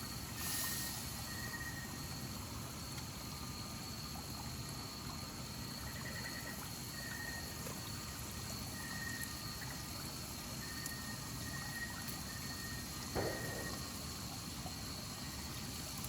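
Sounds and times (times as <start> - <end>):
high insect drone: 0.0 - 15.9
running water: 0.0 - 16.0.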